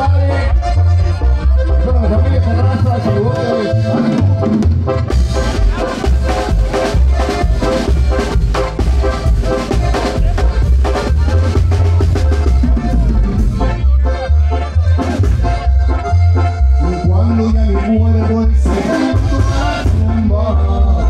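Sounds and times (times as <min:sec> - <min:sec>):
bass drum beat: 0:00.0 - 0:21.0
brass band dance tune: 0:00.0 - 0:21.0.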